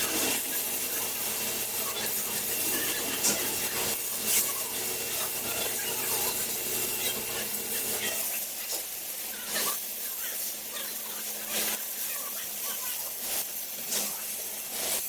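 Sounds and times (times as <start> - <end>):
welding pops: 0.0 - 10.6, 13.0 - 15.0
welding arc crackling hiss: 0.0 - 15.0.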